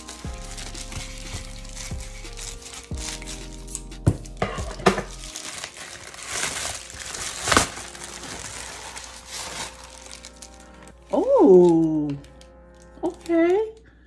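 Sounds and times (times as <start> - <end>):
plastic mailer crinkling: 0.0 - 13.8.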